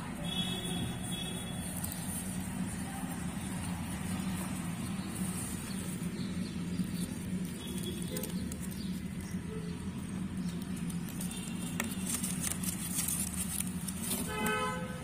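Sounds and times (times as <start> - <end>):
hamsters rustling and nibbling: 0.2 - 15.0.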